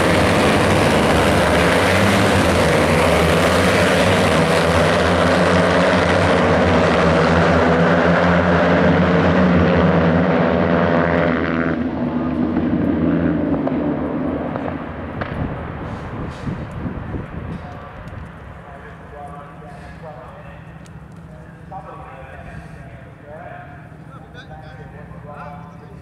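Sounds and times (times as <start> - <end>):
race motorcycle engines revving: 0.0 - 26.0.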